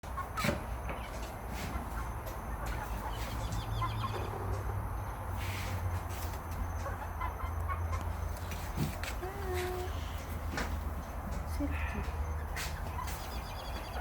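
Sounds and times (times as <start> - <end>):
chickens clucking and chirping: 0.0 - 14.0.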